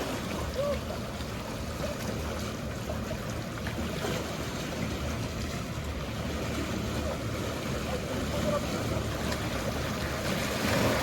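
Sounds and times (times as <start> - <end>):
low hum of boat engines: 0.0 - 11.0
water washing against shore: 0.0 - 11.0.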